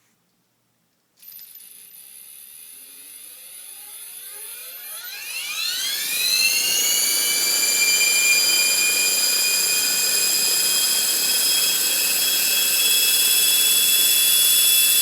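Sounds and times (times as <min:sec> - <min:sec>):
rc helicopter motor whining: 0:02.4 - 0:15.0.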